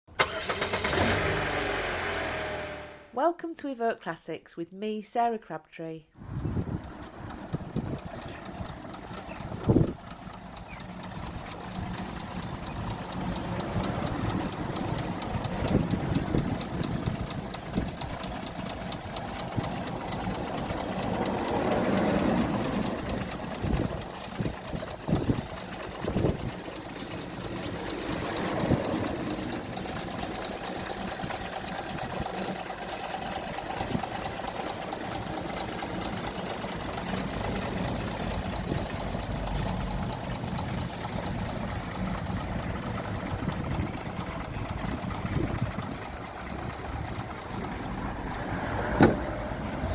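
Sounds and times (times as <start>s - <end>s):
car engine idling and revving: 0.1s - 3.1s, 6.2s - 49.9s.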